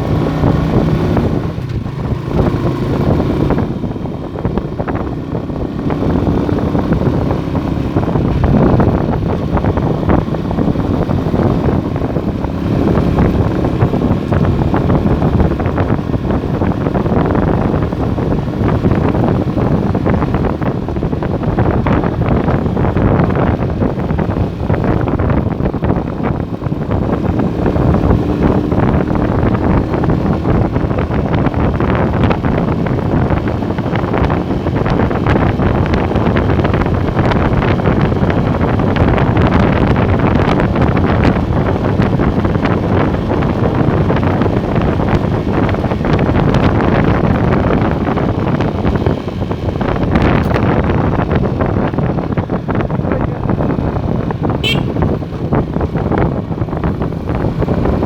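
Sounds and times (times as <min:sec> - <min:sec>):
motorcycle engine: 0:00.0 - 0:58.0
road noise: 0:00.0 - 0:58.0
wind rushing over microphone: 0:00.0 - 0:58.0.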